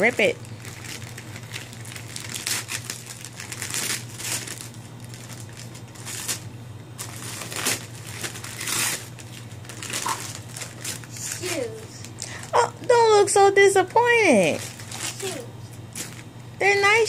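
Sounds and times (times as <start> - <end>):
wrapping paper tearing and rustling: 0.0 - 12.6, 13.8 - 17.0.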